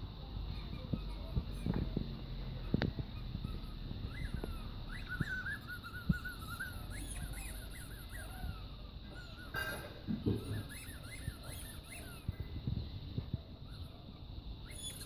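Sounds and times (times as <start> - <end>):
puppy whining: 0.5 - 9.6, 10.2 - 15.0.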